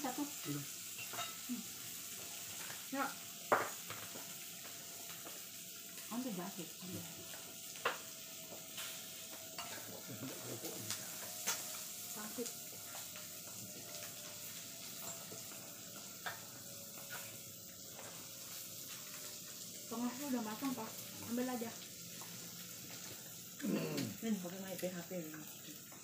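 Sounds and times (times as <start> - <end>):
food sizzling on grill: 0.0 - 26.0.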